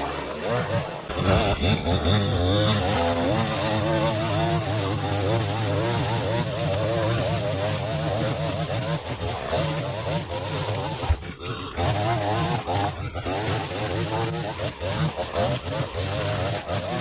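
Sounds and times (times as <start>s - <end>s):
chainsaw running and cutting: 0.0s - 17.0s.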